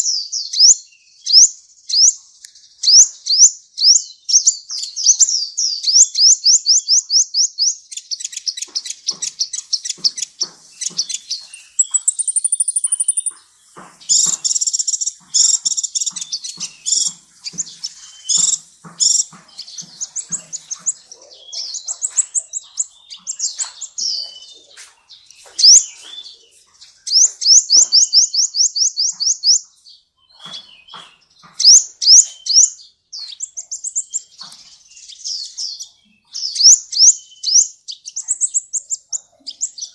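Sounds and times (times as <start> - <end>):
bird twittering trills and chirps: 0.0 - 39.9.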